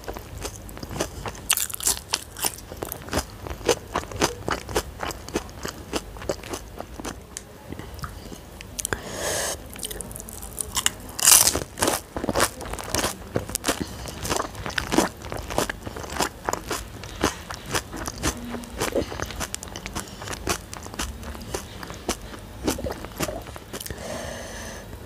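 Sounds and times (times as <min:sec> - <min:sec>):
crisp shells crunching being chewed: 0:00.0 - 0:09.0, 0:09.7 - 0:24.0.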